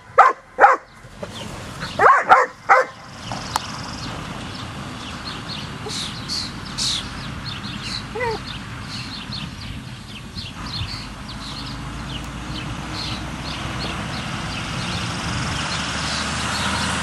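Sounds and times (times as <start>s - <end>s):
low outdoor background: 0.0s - 17.0s
small birds chirping: 0.0s - 17.0s.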